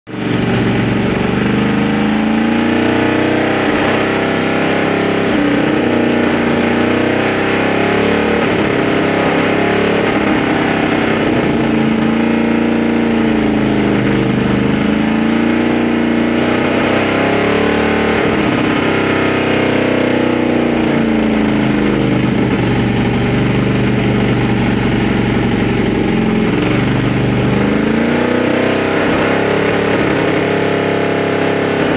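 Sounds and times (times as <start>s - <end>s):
car engine revving: 0.1s - 31.9s.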